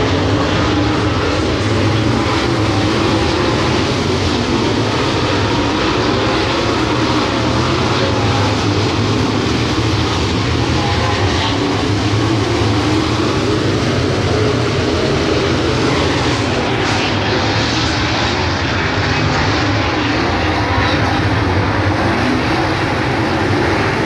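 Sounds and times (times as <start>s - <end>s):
race car engines roaring: 0.0s - 24.0s.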